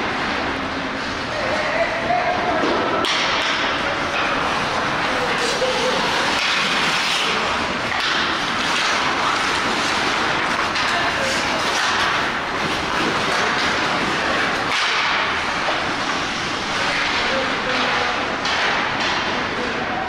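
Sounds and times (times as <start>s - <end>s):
skate blades scraping ice: 3.4s - 19.4s.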